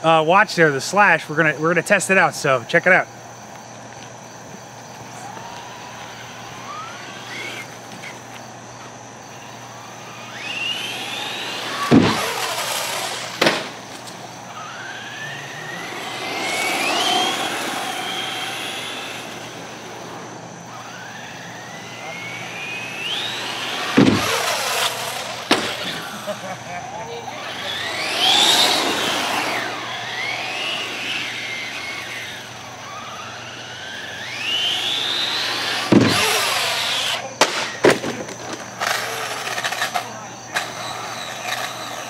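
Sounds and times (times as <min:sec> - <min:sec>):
electric motor whining: 0:03.3 - 0:42.0.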